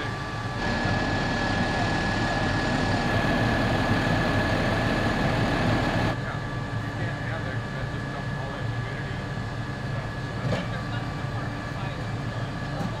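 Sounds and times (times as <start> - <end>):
thin steady whine: 0.0 - 12.8
diesel engine idling: 0.0 - 13.0.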